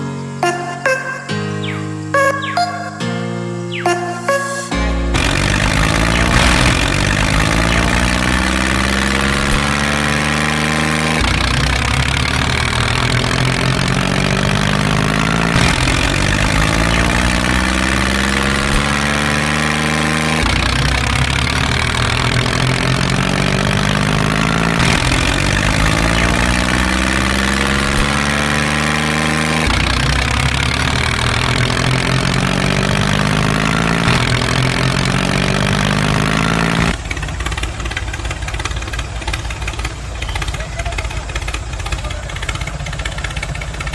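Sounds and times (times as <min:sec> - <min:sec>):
tractor engine revving: 0:03.7 - 0:43.9.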